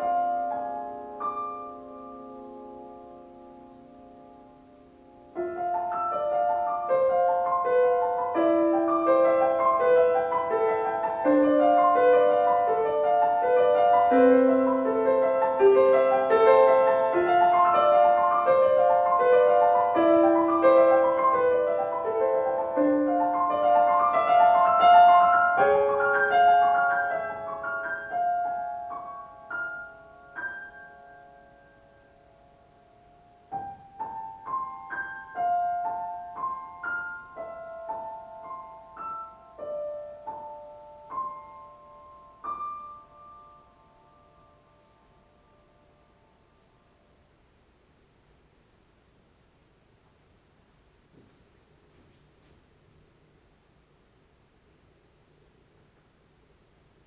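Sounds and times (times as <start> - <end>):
solo acoustic piano: 0.0 - 57.0.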